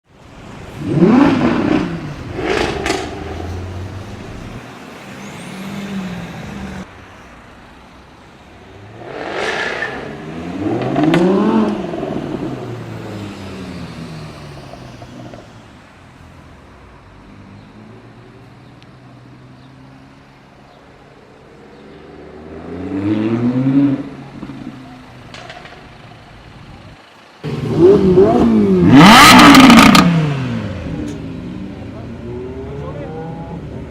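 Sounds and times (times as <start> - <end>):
engine rumble: 0.1 - 33.9
sports car engines revving: 0.4 - 6.9, 8.6 - 20.2, 21.1 - 33.9.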